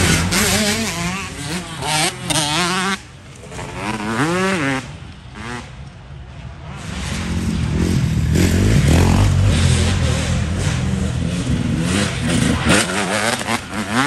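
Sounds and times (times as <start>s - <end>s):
dirt bike engine revving: 0.0s - 5.8s, 6.8s - 14.0s.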